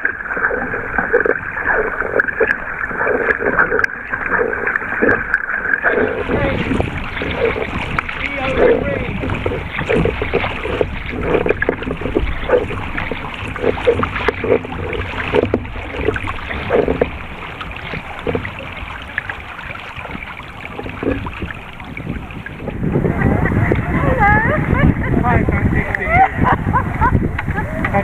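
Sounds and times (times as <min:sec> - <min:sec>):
paddle splashes: 0:00.0 - 0:28.0
water slapping against hull: 0:00.0 - 0:28.0
wind buffeting microphone: 0:00.0 - 0:28.0.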